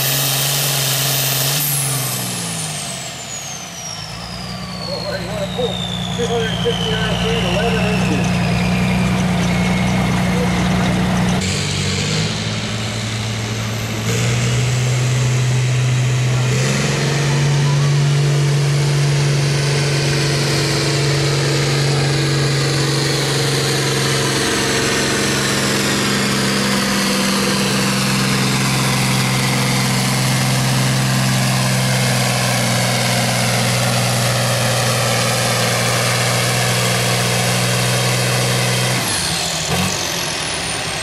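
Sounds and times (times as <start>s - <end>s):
tractor engine running hard: 0.0s - 41.0s.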